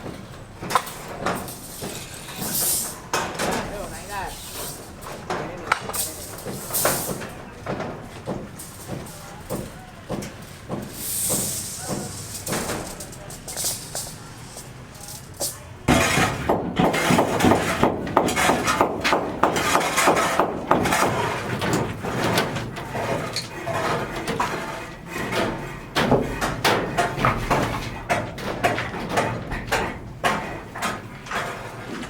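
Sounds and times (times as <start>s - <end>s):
construction knocking and clattering: 0.0s - 32.0s.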